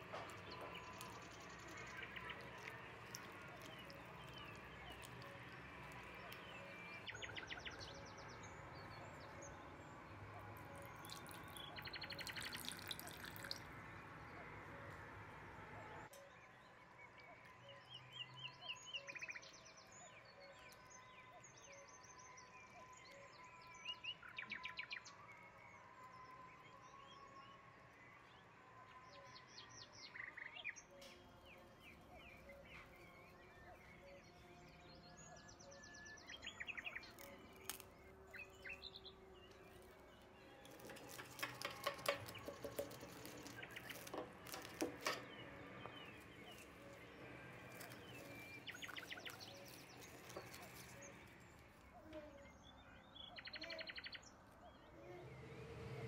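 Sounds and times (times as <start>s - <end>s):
small birds chirping: 0.0s - 25.4s, 29.1s - 56.0s.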